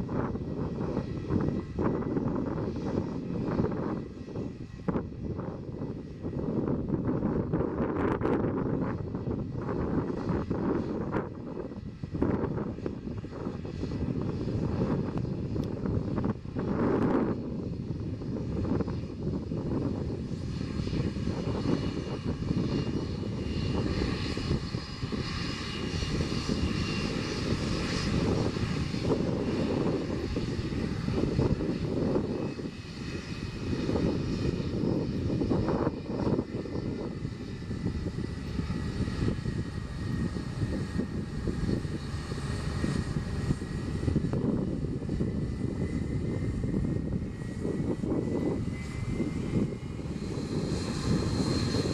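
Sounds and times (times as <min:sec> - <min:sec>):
aircraft engines rumbling: 0:00.0 - 0:51.9
high whining engine tones: 0:00.0 - 0:51.9.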